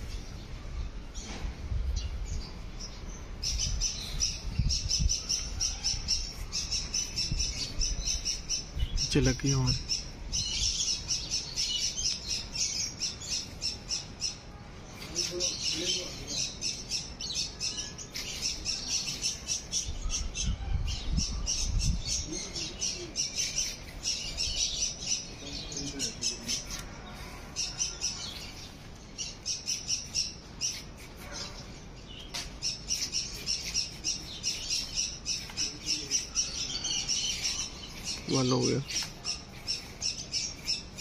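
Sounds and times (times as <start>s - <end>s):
birds chirping rapidly: 0.0s - 41.0s.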